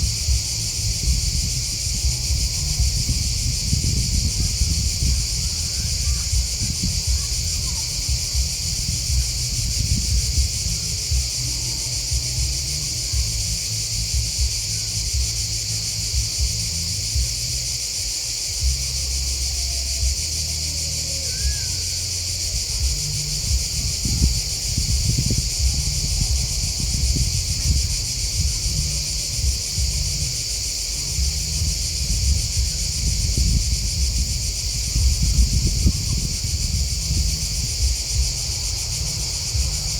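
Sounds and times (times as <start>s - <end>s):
crickets and grasshoppers chirping: 0.0s - 39.9s
low uneven rumble: 0.0s - 39.9s.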